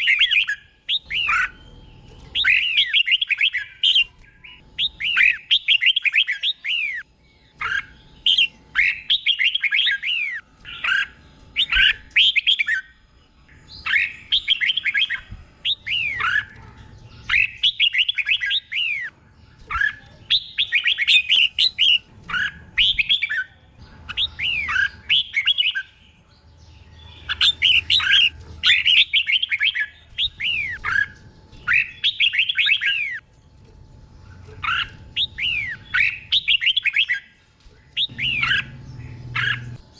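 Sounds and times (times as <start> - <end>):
bird singing chirpy notes: 0.0 - 33.3, 34.2 - 39.9.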